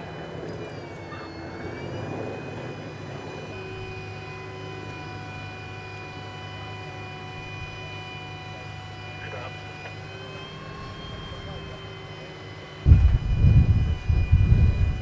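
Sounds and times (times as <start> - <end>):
engine drone: 0.0 - 15.0
whining high tones: 0.0 - 15.0.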